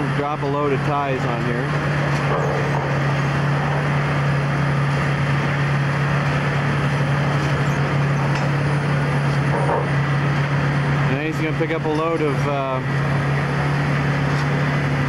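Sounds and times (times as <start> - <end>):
low diesel drone: 0.0 - 15.0
machinery noise: 0.0 - 15.0.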